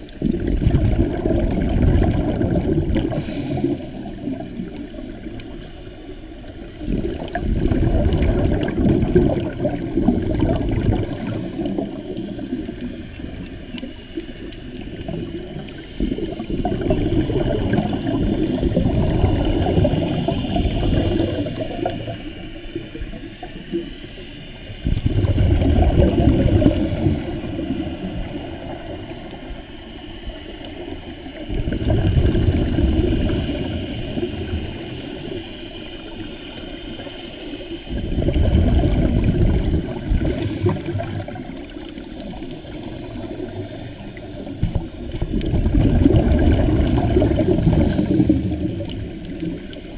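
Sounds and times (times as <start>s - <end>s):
underwater exhaled bubbles: 0.0s - 49.9s.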